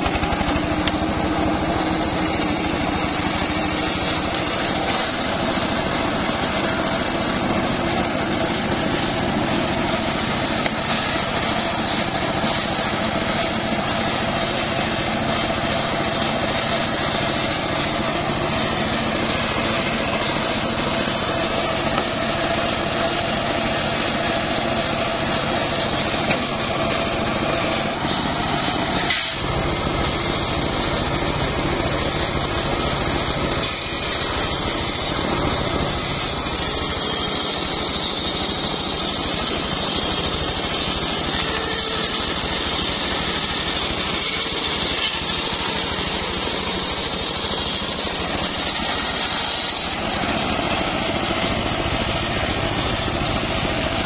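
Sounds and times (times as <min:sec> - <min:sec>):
circular saw cutting log: 0:00.0 - 0:54.0.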